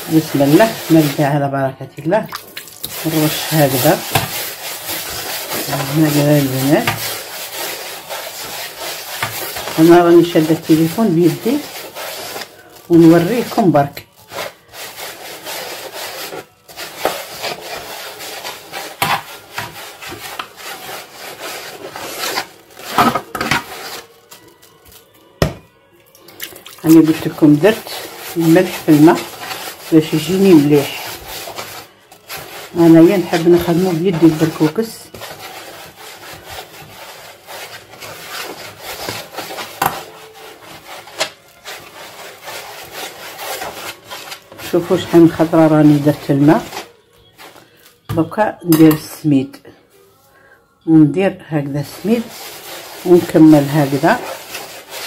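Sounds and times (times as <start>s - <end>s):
grain scraping against wooden bowl: 0.0s - 1.5s, 2.4s - 25.2s, 26.7s - 48.0s, 51.6s - 55.0s.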